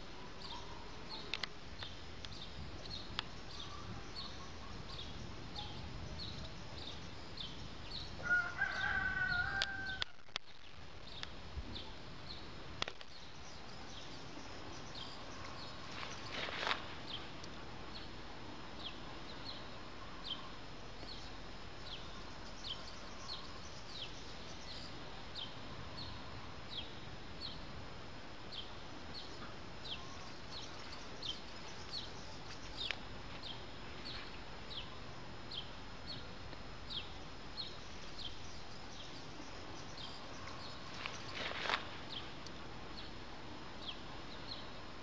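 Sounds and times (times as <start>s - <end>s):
steady outdoor hiss: 0.0s - 45.0s.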